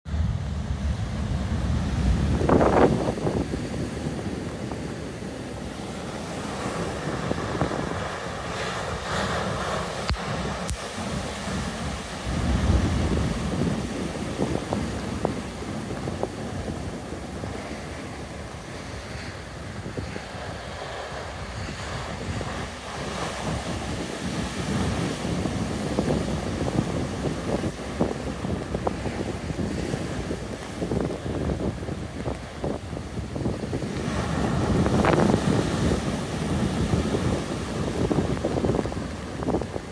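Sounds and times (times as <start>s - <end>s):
heavy surf pounding: 0.1s - 39.9s
wave crashing: 0.1s - 39.9s
wind buffeting microphone: 0.1s - 39.9s.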